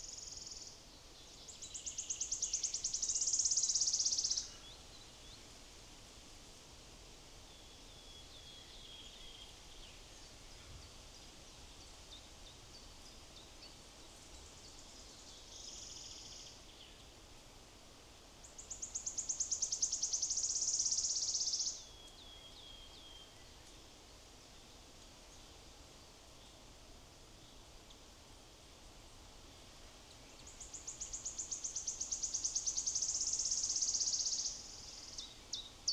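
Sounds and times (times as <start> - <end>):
faint outdoor hiss: 0.0 - 35.9.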